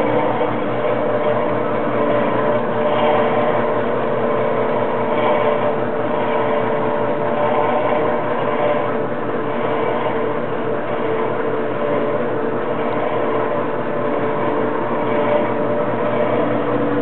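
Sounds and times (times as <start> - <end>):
drill press whirring: 0.0 - 17.0.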